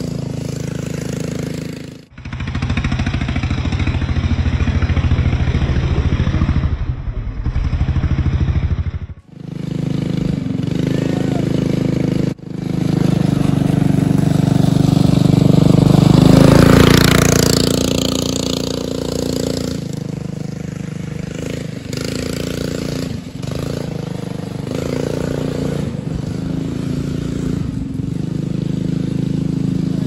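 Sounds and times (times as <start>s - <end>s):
small engine revving: 0.0s - 30.0s.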